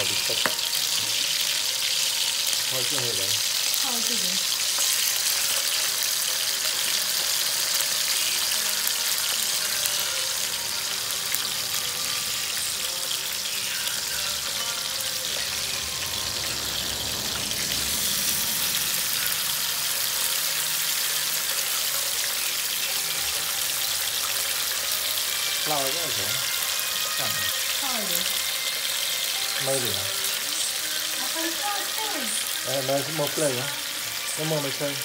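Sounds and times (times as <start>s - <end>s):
meat frying in hot oil: 0.0s - 35.0s.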